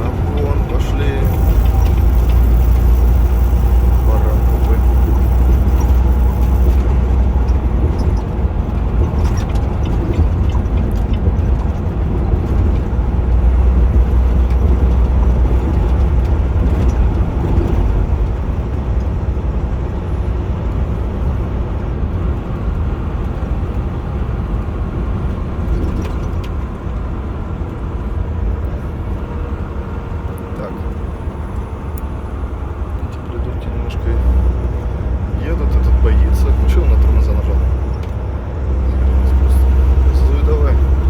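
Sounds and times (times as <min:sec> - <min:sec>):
truck engine and road rumble: 0:00.0 - 0:41.0.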